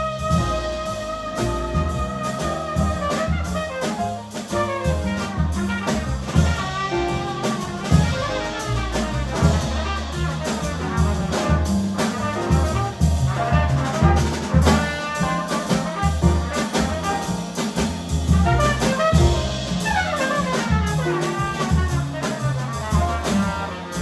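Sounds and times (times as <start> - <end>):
double bass: 0.0 - 24.0
drum kit: 0.0 - 24.0
piano: 0.0 - 24.0
trumpet melody: 0.0 - 24.0.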